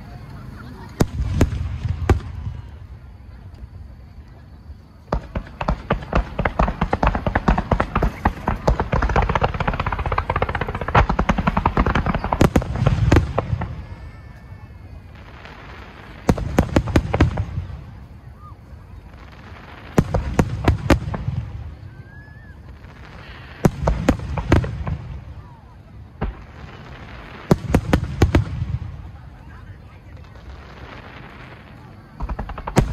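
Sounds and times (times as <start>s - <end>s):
fireworks bursting: 0.0s - 32.9s.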